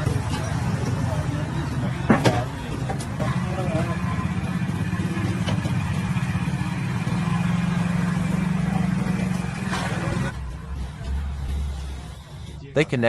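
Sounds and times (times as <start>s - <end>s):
engine pulsing drone: 0.0s - 13.0s.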